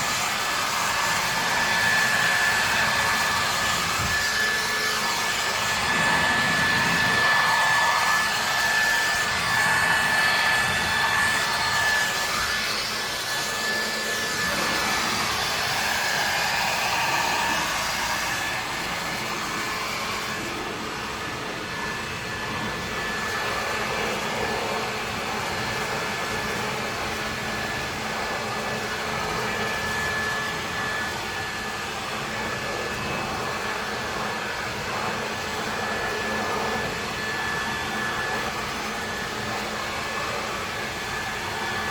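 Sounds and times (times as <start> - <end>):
power washer running: 0.0 - 41.9.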